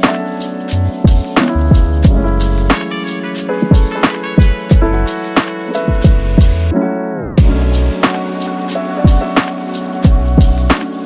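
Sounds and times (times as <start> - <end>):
background music with steady beat: 0.0 - 6.8, 7.4 - 11.0.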